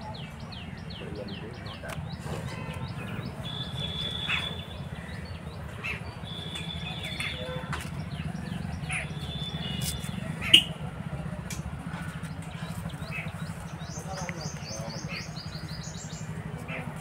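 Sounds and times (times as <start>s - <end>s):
small birds chirping: 0.0s - 10.8s, 11.5s - 17.0s.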